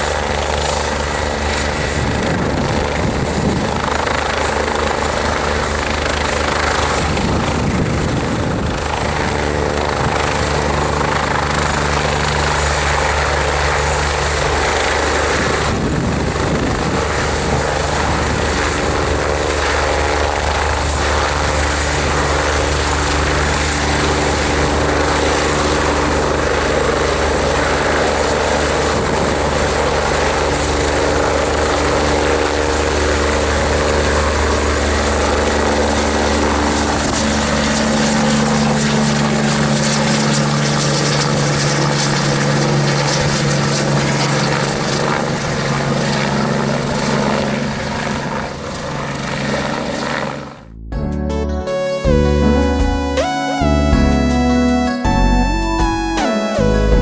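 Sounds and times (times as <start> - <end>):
helicopter rotor: 0.0 - 50.6.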